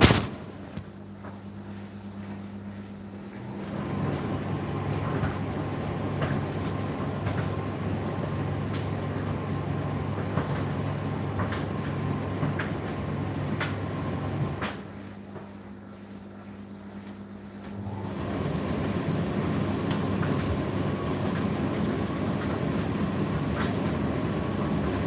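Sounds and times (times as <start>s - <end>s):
tumble dryer humming: 0.0s - 25.0s.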